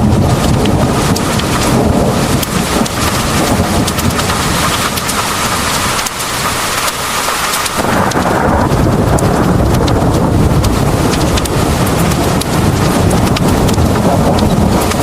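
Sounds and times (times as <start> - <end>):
deep low rumble: 0.0 - 15.0
heavy rain pouring: 0.0 - 15.0
raindrops ticking on hard surface: 0.0 - 15.0.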